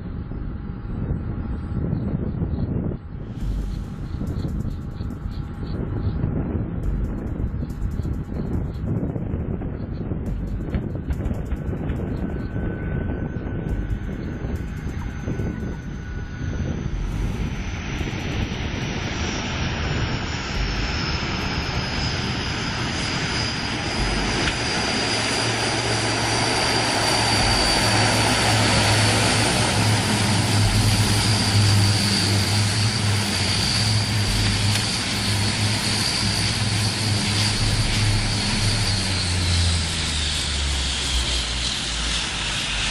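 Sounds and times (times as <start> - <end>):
aircraft engine roar: 0.0 - 42.9
high engine whine: 0.0 - 42.9
low hum: 0.0 - 42.9.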